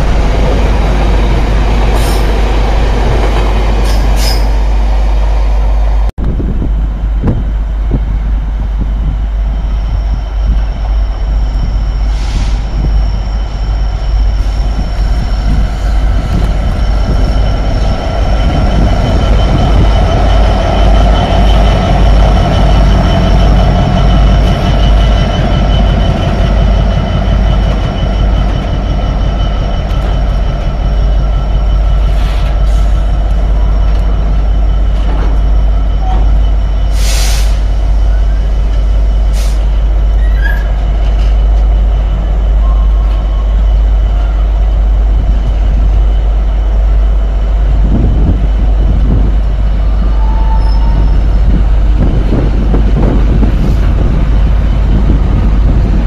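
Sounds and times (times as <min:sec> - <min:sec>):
diesel locomotive engine rumble: 0:00.0 - 0:56.0
train wheels rolling on rails: 0:06.5 - 0:56.0.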